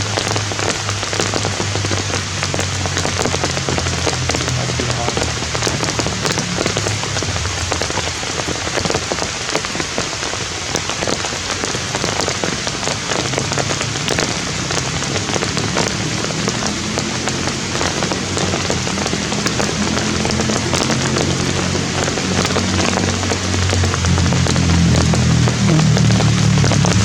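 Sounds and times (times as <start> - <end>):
heavy rain: 0.0 - 27.0
raindrops tapping close by: 0.0 - 27.0.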